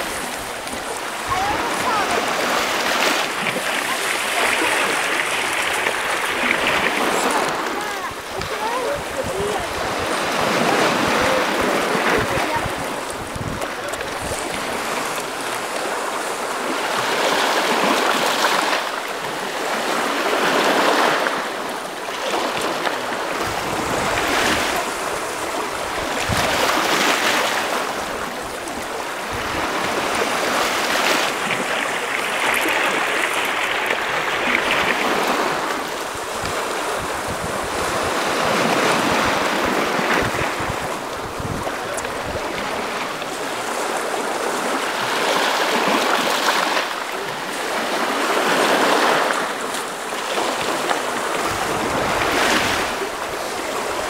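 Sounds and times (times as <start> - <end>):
light sea breeze: 0.0 - 54.0
small waves washing onto beach: 0.0 - 54.0.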